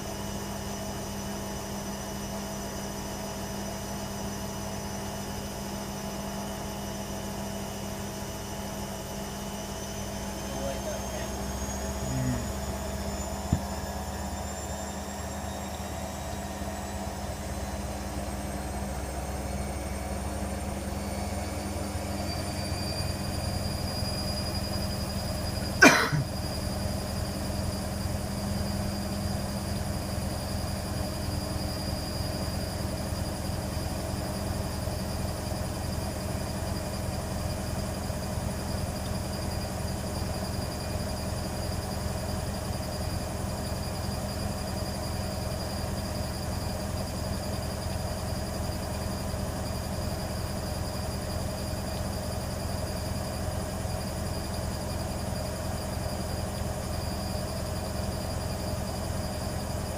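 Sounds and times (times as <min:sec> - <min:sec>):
washer dryer motor whining: 0:00.0 - 0:59.9.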